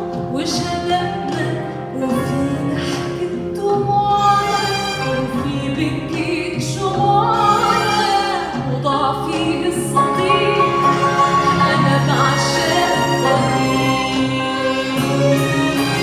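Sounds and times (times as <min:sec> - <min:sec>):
string orchestra: 0:00.0 - 0:16.0
woman singing: 0:00.1 - 0:16.0.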